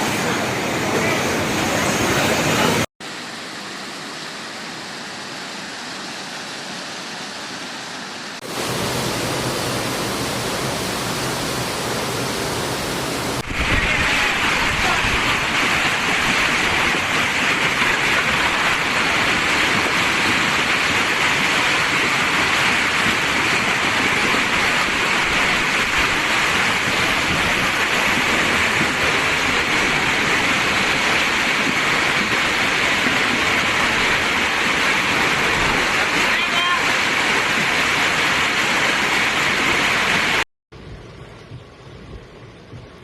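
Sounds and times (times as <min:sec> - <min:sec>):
rush of storm water: 0:00.0 - 0:40.4.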